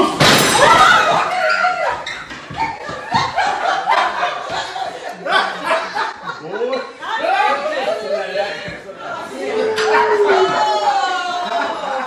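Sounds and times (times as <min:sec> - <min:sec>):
people shrieking and laughing: 0:00.0 - 0:12.0.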